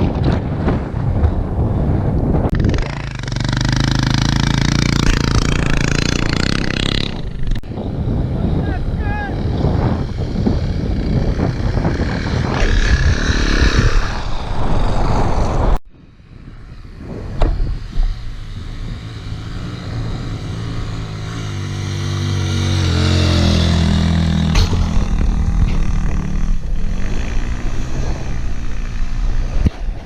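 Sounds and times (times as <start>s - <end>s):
wind noise: 0.0s - 30.0s
motorcycle engine running hard: 2.5s - 13.4s, 16.3s - 30.0s.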